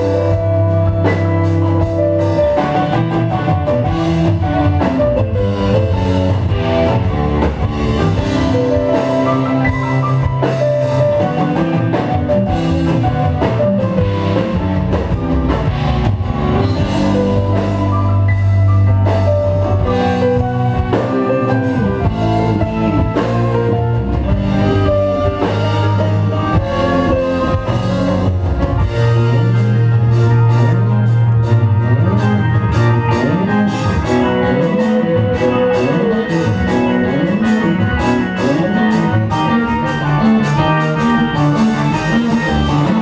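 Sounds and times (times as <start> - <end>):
progressive rock band playing live: 0.0 - 43.0.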